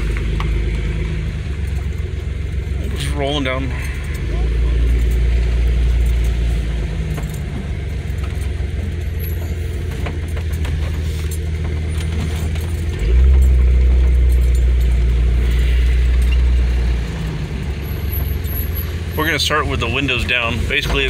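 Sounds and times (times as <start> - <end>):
car exhaust low drone: 0.0 - 21.0.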